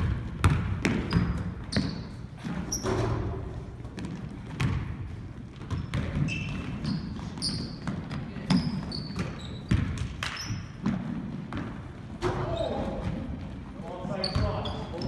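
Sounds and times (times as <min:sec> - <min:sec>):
basketball bouncing on hardwood floor: 0:00.0 - 0:13.6
sneakers squeaking on court: 0:00.0 - 0:15.0.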